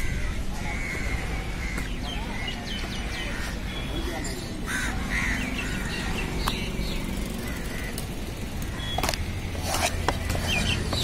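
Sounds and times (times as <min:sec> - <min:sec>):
low engine rumble: 0:00.2 - 0:11.0.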